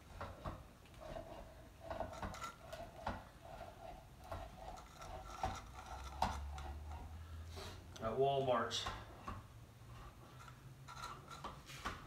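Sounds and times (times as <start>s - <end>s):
utensil scraping a dish: 0.0s - 7.9s, 9.0s - 12.0s.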